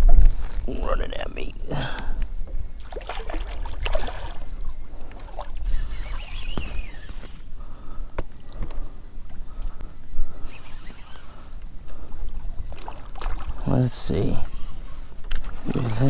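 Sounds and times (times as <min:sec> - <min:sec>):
wind rumbling on microphone: 0:00.0 - 0:16.0
water lapping against kayak hull: 0:01.8 - 0:16.0.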